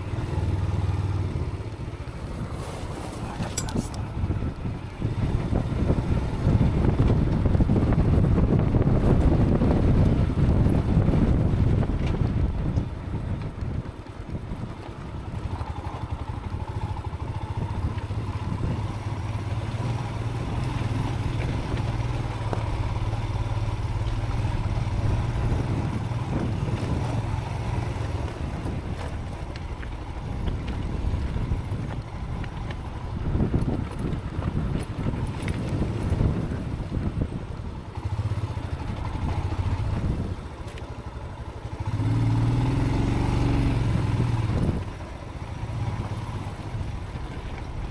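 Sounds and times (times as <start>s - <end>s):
motorcycle engine running: 0.0s - 47.9s
wind noise on microphone: 0.0s - 47.9s.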